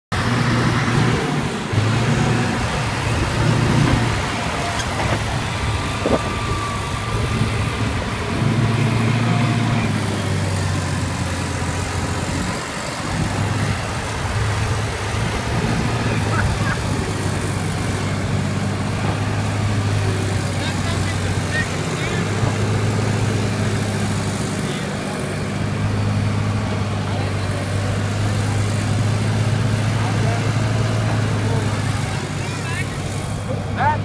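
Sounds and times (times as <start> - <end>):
diesel engine revving under load: 0.1 - 34.0.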